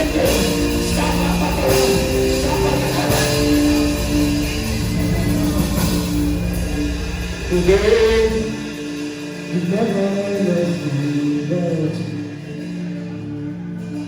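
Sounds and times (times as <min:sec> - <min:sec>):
man singing: 0:00.0 - 0:06.2, 0:07.4 - 0:13.3
bass: 0:00.0 - 0:14.0
sustained keyboard chords: 0:00.0 - 0:14.0.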